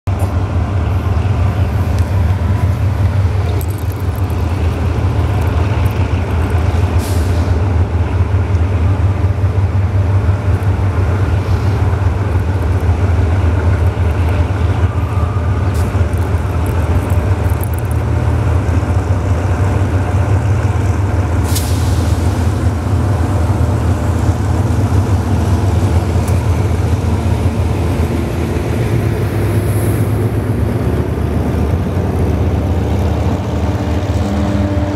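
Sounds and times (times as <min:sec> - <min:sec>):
diesel locomotive rumbling: 0:00.1 - 0:34.9.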